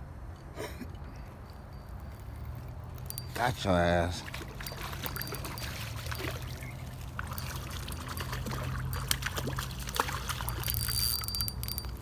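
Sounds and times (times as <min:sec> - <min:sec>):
water trickling and splashing: 0:02.3 - 0:12.0.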